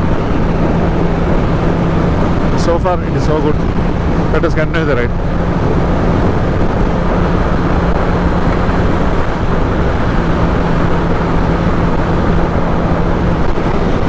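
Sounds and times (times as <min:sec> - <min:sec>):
motorcycle engine droning: 0:00.0 - 0:14.0
wind rush over microphone: 0:00.0 - 0:14.0.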